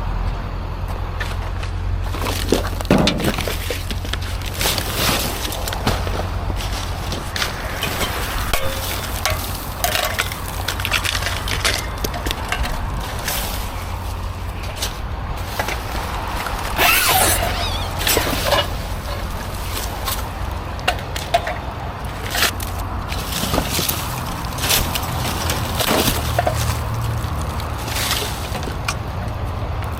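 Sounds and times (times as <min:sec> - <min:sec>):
scrap metal clinking and rattling: 0:02.2 - 0:16.0, 0:16.8 - 0:29.0.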